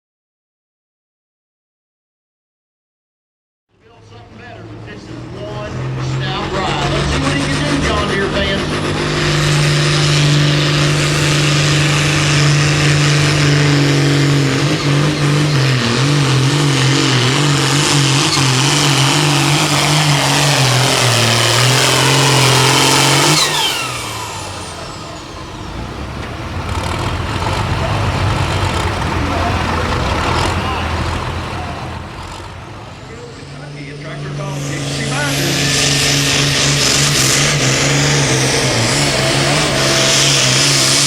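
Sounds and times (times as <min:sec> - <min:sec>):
diesel tractor engine under load: 0:03.7 - 0:41.0
turbo whine winding down: 0:04.8 - 0:41.0.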